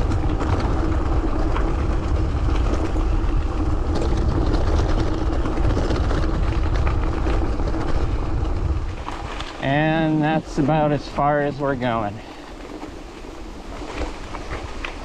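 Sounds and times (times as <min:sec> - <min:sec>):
bike tyre noise: 0:00.0 - 0:15.0
wind buffeting microphone: 0:00.0 - 0:15.0.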